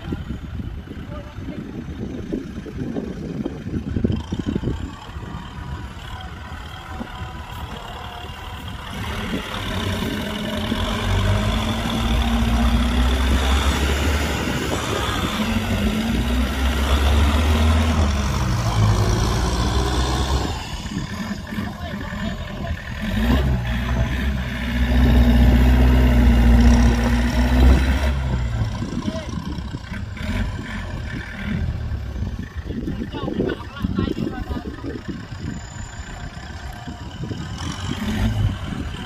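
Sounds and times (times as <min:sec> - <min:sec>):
tractor diesel engine revving: 0:00.0 - 0:39.0.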